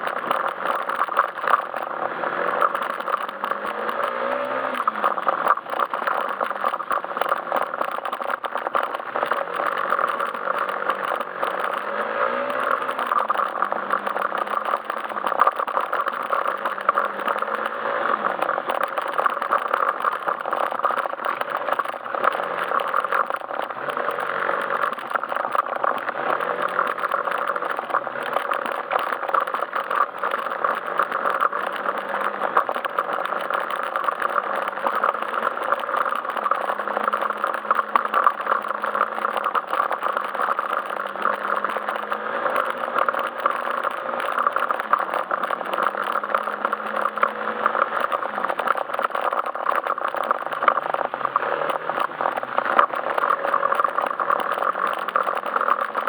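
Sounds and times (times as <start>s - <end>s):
scooter engine revving: 1.8s - 49.1s.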